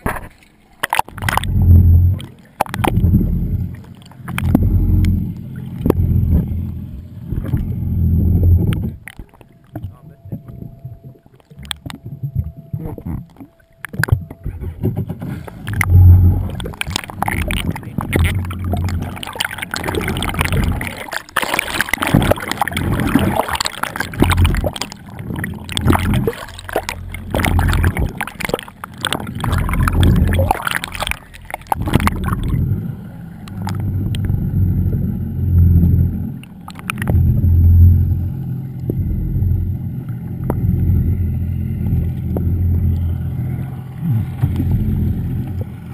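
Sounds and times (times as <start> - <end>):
muffled underwater rumble and gurgle: 0.0 - 45.9
water sloshing and splashing: 0.0 - 45.9.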